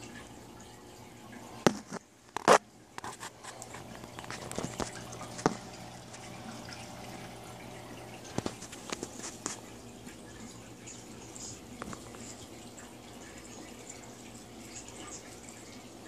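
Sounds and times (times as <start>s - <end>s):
aquarium water trickling: 0.0s - 16.0s.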